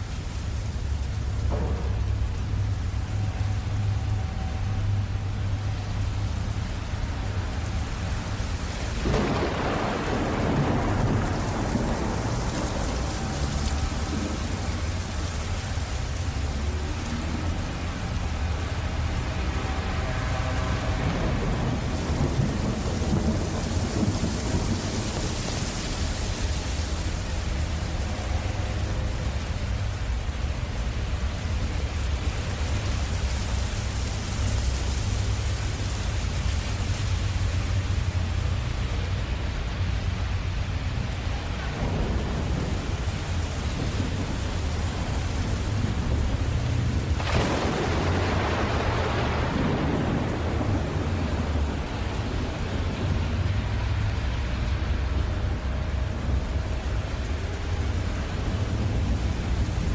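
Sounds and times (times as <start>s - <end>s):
low rolling thunder rumble: 0.0s - 59.9s
steady rain: 0.0s - 59.9s.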